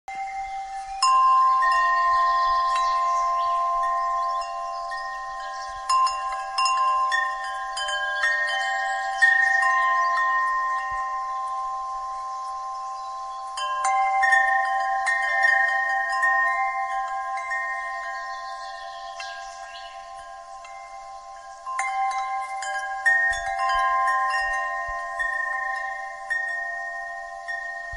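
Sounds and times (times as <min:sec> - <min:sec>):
wind chimes ringing: 0:00.1 - 0:27.9.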